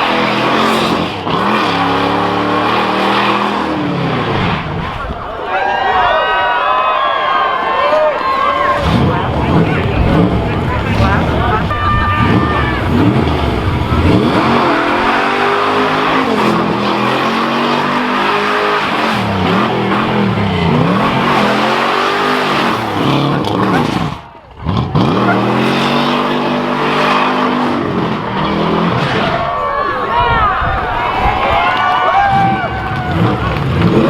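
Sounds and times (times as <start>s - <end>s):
car engine revving: 0.0s - 5.4s, 7.8s - 34.0s.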